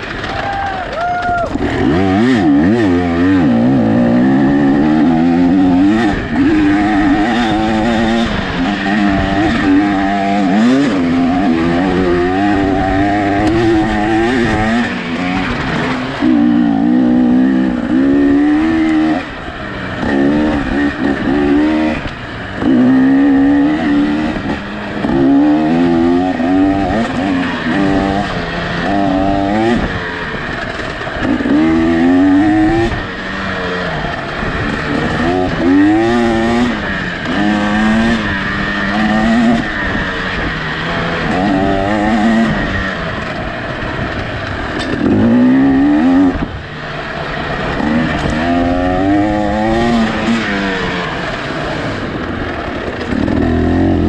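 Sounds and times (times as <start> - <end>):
two-stroke engine revving: 1.2 - 54.0.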